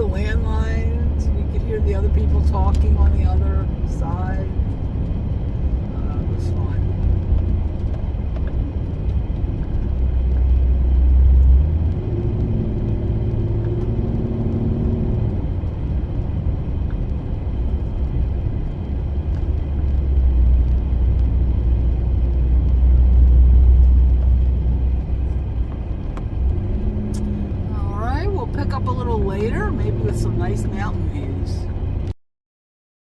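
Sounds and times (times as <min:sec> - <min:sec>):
van engine and tyre rumble: 0:00.0 - 0:32.2.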